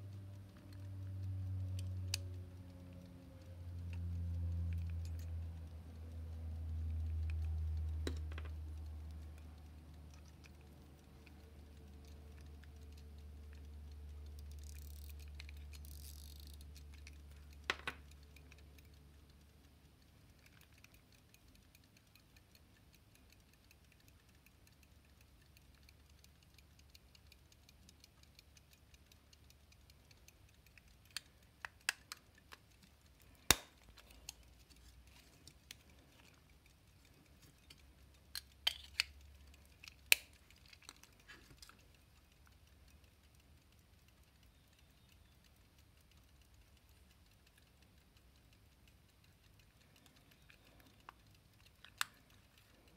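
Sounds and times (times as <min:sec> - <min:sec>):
faint low hum: 0:00.0 - 0:52.9
pocket watch metallic clicks: 0:00.0 - 0:52.9.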